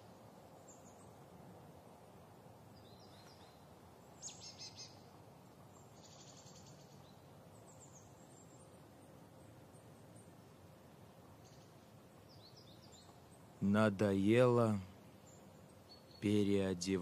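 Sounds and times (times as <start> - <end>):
small birds chirping: 0.0 - 1.3, 2.7 - 17.0
faint outdoor hum: 0.0 - 17.0.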